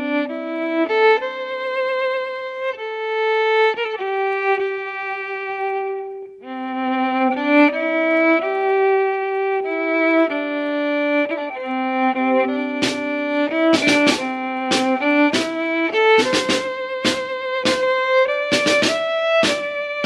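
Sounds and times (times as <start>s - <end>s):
violin playing slow melody: 0.0s - 20.0s.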